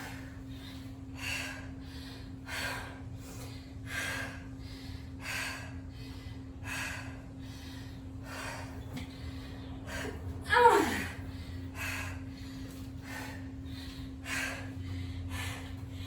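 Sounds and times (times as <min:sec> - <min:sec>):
steady low hum: 0:00.0 - 0:16.0
woman breathing hard: 0:00.0 - 0:16.0.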